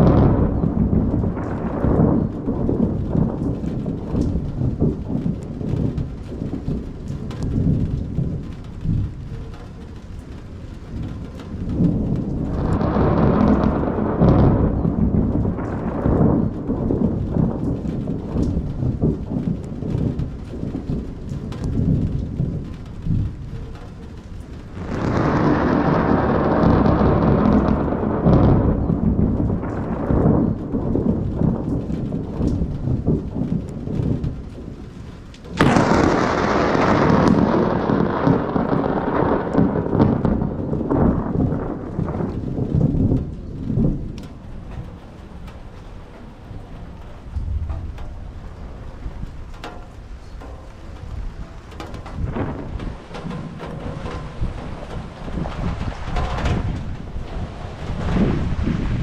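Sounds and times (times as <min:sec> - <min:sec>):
loud rolls of thunder: 0:00.0 - 0:59.0
rain: 0:00.0 - 0:59.0
thunder rumbling: 0:00.0 - 0:59.0.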